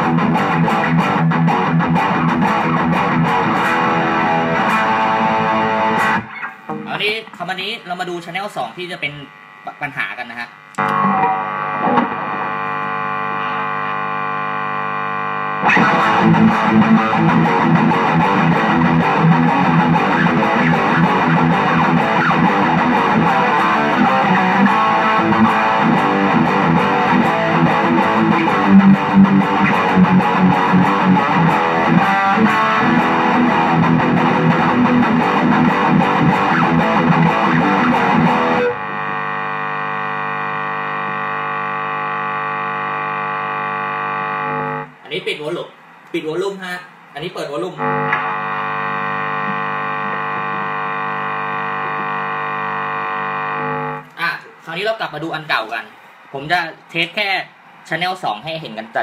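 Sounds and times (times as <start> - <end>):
electrical buzz: 0.0 - 45.1, 47.6 - 54.1
distorted electric guitar: 0.0 - 45.3, 47.2 - 55.9.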